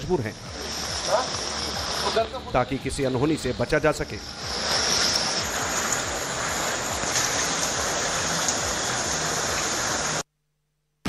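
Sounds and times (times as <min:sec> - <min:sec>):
floodwater rushing: 0:00.3 - 0:10.2
heavy rain: 0:00.3 - 0:10.2.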